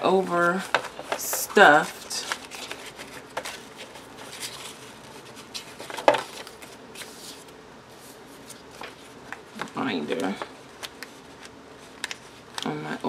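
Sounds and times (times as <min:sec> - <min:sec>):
paper pages rustling: 0:00.0 - 0:13.0.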